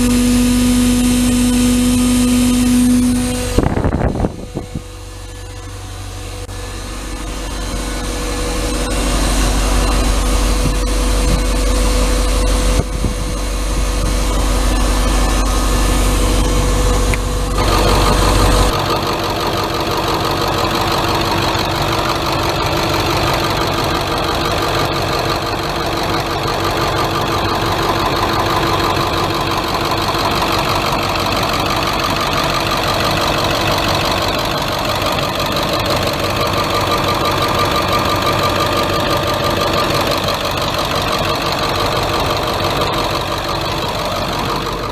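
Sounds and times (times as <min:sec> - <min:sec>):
diesel bus engine idling: 0:00.0 - 0:44.9.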